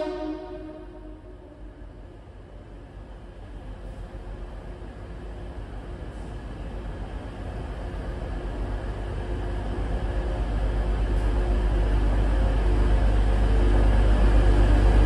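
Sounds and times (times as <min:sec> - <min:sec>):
diesel train drone: 0:00.0 - 0:15.0.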